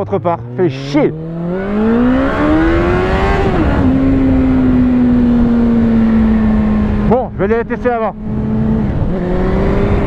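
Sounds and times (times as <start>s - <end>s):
motorcycle engine accelerating: 0.0s - 10.0s
wind rushing over microphone: 1.1s - 10.0s.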